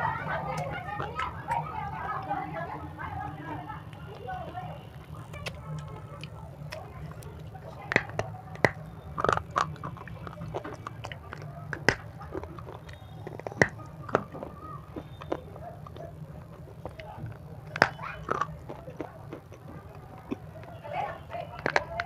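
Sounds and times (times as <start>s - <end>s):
chewing crunches: 0.4s - 22.0s
crunchy biting cracks: 3.9s - 22.0s.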